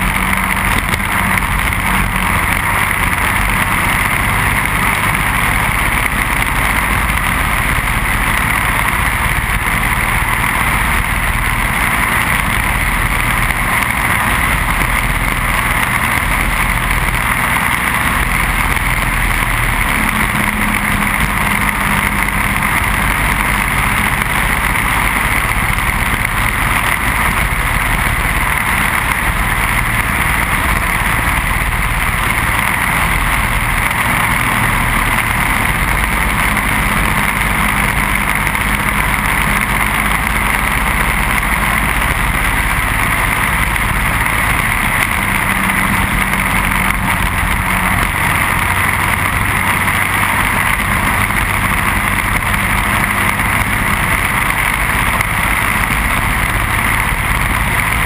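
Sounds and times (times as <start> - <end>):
kart engine running at speed: 0.0 - 58.0.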